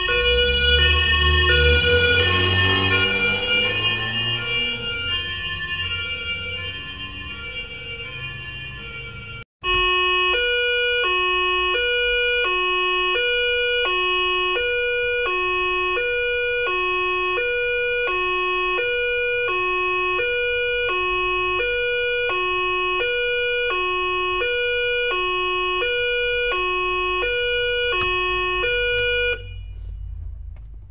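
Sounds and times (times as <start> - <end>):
two-tone ambulance siren: 0.0 - 30.0.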